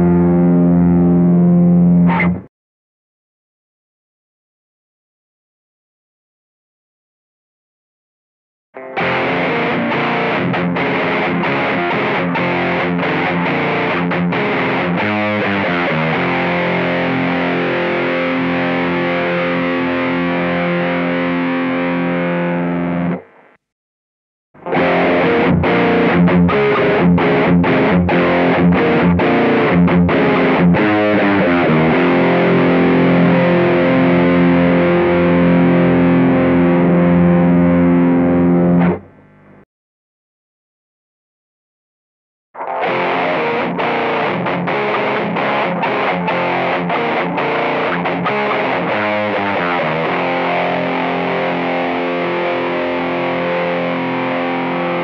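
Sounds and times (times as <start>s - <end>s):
distorted electric guitar riff: 0.0s - 2.5s, 8.8s - 23.7s, 24.6s - 39.6s, 42.6s - 55.0s.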